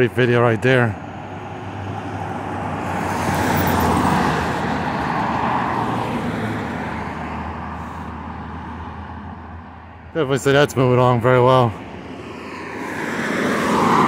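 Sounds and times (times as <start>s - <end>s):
vehicles passing by: 0.0s - 14.0s.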